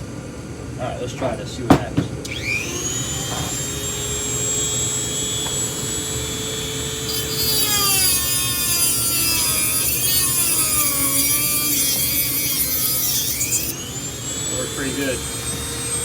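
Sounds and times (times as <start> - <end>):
rotary tool grinding metal: 2.3 - 16.0.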